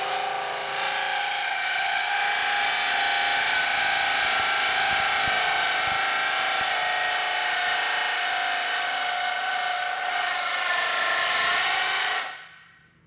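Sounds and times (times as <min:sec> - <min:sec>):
hole saw grinding screech: 0:00.0 - 0:12.4.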